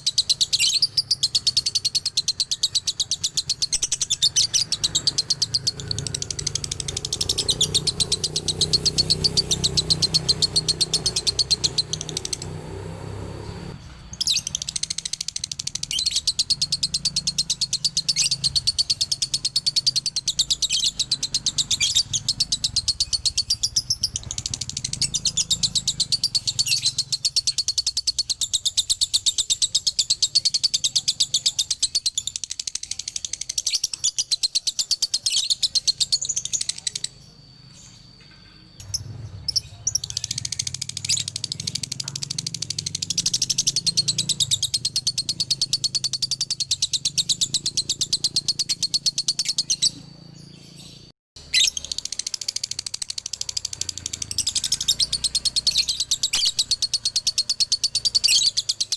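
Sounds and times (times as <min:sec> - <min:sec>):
lovebird shrill chirps: 0:00.0 - 0:58.9.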